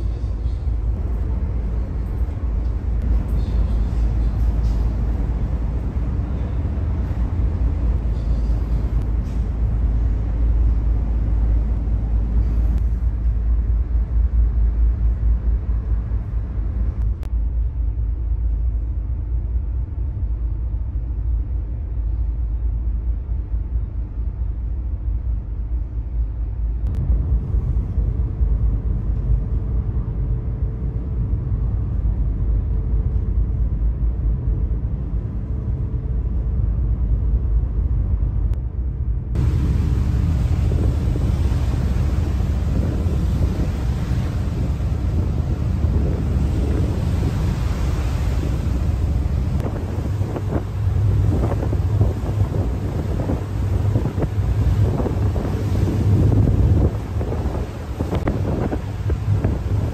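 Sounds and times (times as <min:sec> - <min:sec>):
ferry engine rumble: 0:00.0 - 0:59.9
wind noise on microphone: 0:00.0 - 0:59.9.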